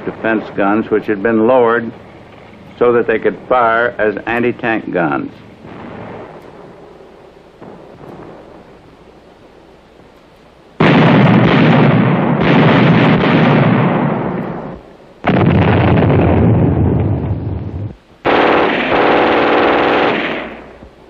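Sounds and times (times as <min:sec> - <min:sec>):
heavy gunfire volleys: 0:00.0 - 0:21.0.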